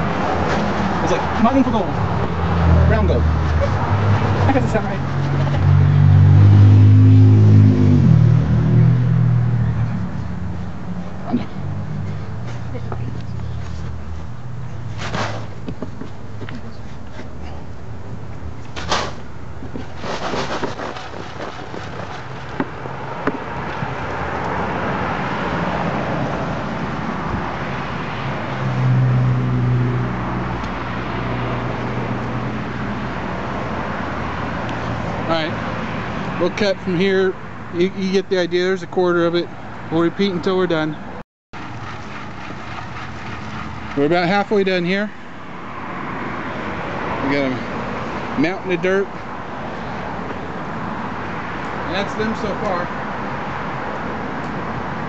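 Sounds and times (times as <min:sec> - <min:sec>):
road traffic noise: 0:00.0 - 0:55.0
vehicle engine hum: 0:00.0 - 0:55.0.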